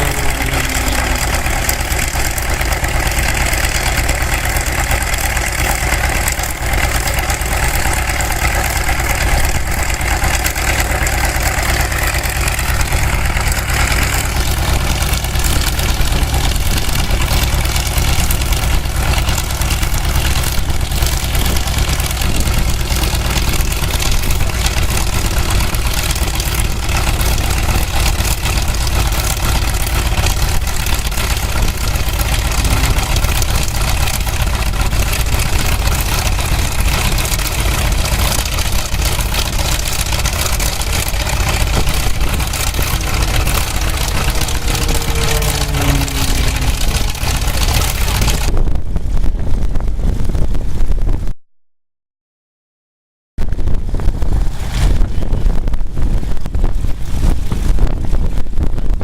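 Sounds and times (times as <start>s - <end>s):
aircraft piston engines: 0.0s - 48.6s.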